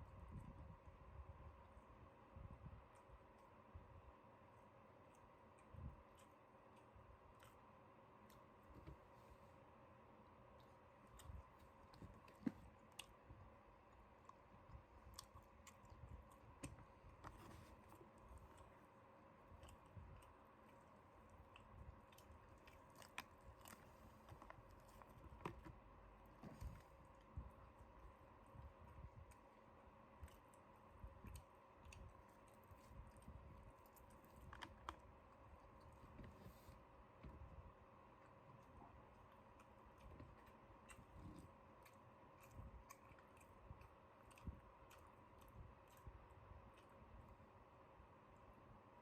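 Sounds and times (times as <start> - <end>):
faint electrical hum: 0.0 - 49.0.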